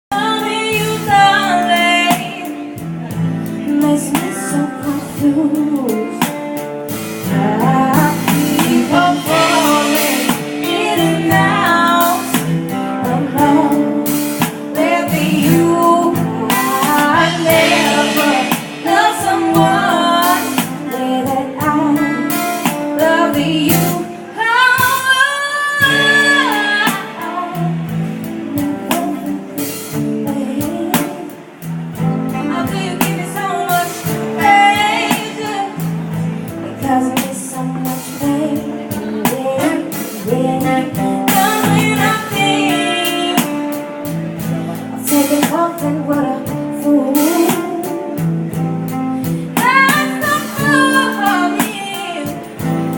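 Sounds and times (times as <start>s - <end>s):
guitar accompaniment: 0.0s - 52.9s
person singing: 0.0s - 52.9s.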